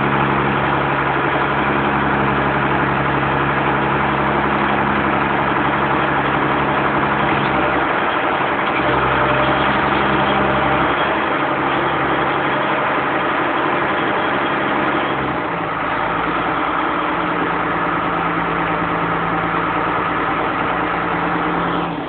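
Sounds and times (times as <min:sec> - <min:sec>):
harvester engine running: 0:00.0 - 0:22.0
machinery clatter: 0:00.0 - 0:22.0.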